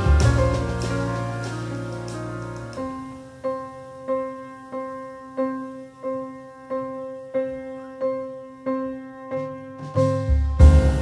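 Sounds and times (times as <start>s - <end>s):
piano repeating one note: 0.0s - 11.0s.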